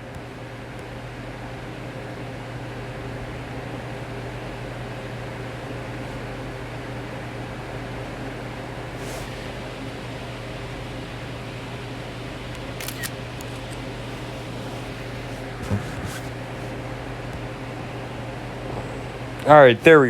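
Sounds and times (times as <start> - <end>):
low machinery hum with hiss: 0.0 - 20.0.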